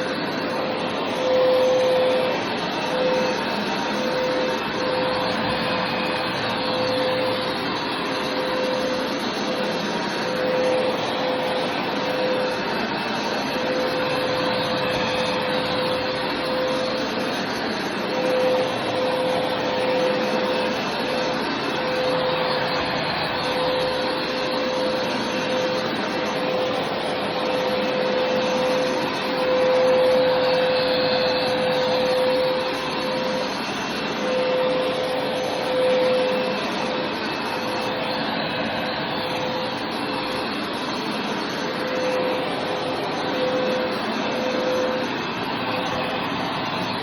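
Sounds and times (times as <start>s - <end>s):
carpet cleaner running: 0.0s - 47.0s.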